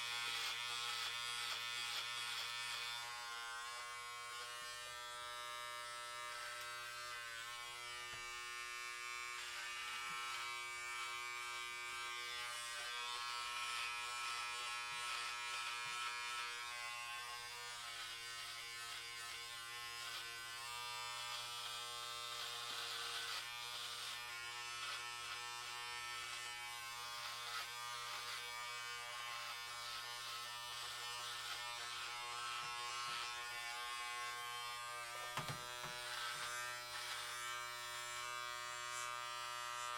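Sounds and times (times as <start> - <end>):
clipper blades rasping through hair: 0.0 - 39.9
hair clippers buzzing: 0.0 - 39.9.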